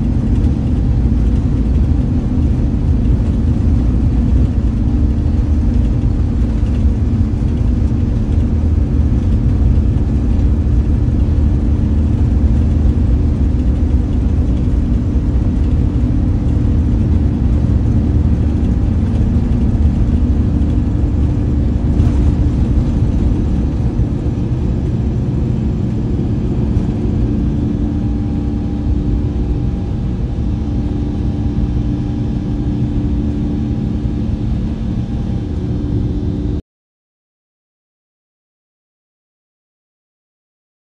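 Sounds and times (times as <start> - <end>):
jet engines at takeoff thrust: 0.0 - 36.6
steady higher hum: 0.0 - 36.6
steady low rumble: 0.0 - 36.6.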